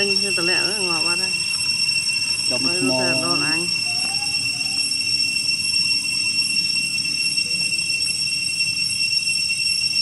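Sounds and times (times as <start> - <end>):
cicadas droning: 0.0 - 10.0.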